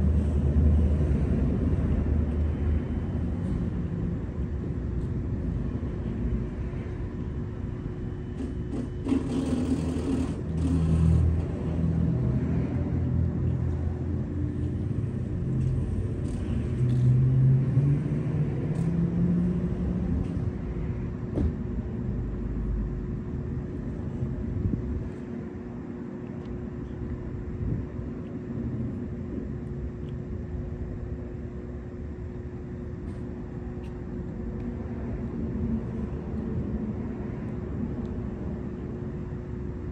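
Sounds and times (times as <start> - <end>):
low engine rumble: 0.0 - 39.9
steady hum: 0.0 - 39.9.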